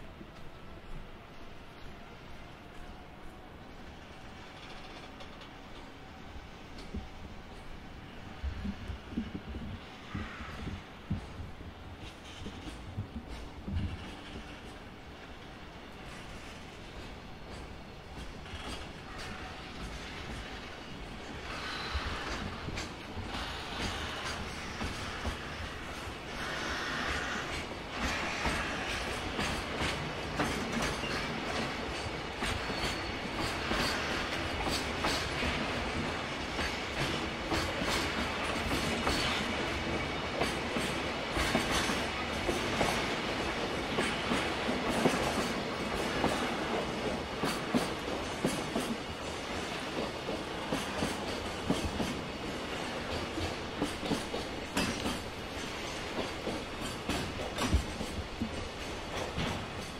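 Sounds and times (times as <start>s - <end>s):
train wheels clattering over rail joints: 4.3s - 5.9s, 8.4s - 59.9s.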